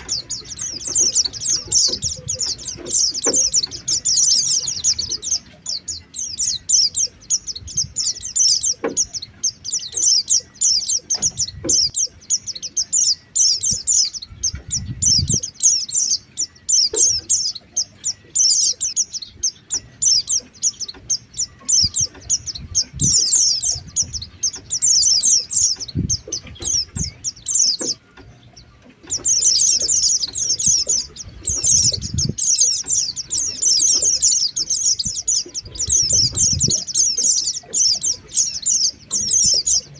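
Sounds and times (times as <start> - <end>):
birds twittering in high chatter: 0.0 - 39.9.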